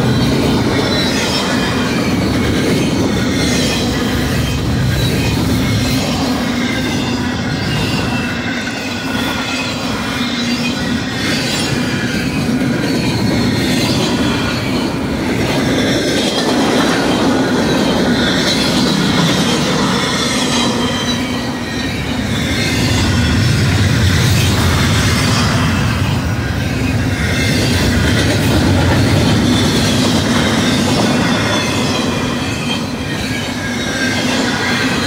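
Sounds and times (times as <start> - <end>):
high wheel squeals: 0.0 - 35.0
steel wheels rumbling on rail: 0.0 - 35.0.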